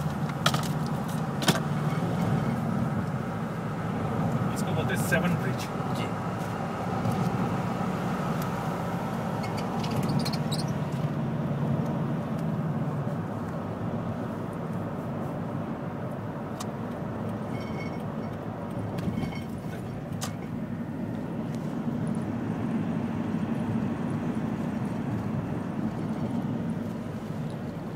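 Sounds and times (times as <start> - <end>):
car engine and road noise: 0.0 - 27.9.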